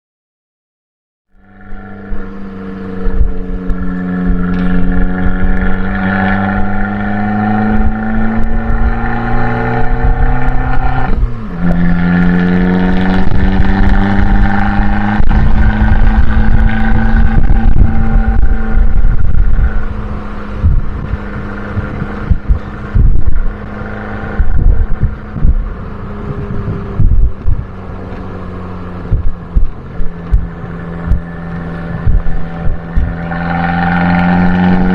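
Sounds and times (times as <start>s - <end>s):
car engine accelerating: 1.3s - 34.9s
gear change: 1.4s - 34.9s.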